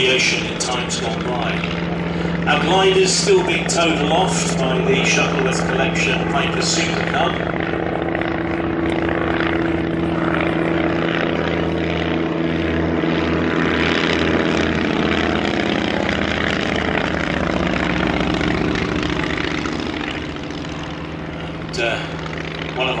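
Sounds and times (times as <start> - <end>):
propeller plane engine running: 0.0 - 23.0.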